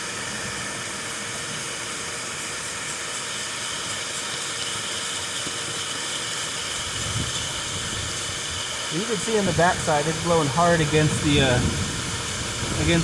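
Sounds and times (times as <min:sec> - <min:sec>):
shop vac blowing air: 0:00.0 - 0:13.0.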